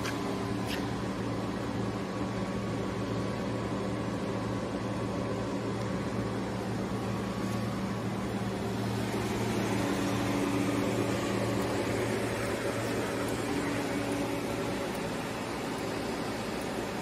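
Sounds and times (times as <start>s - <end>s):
electrical cabinet fan hum: 0.0s - 17.0s.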